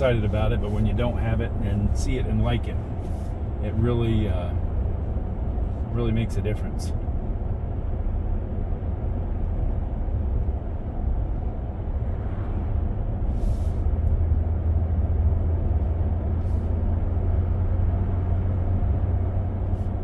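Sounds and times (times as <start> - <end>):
road and tyre noise in cabin: 0.0 - 20.0.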